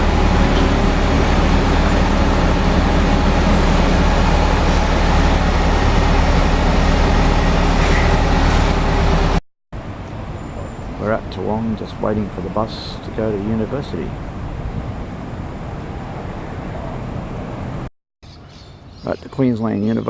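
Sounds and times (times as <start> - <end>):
bus engine and road noise: 0.0 - 17.9.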